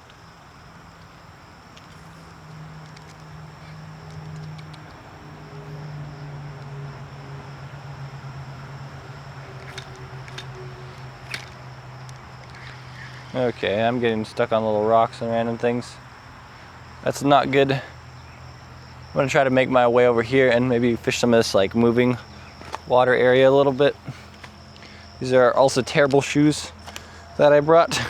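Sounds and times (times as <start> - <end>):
insects chirring: 0.0 - 28.0
low steady hum: 0.0 - 28.0.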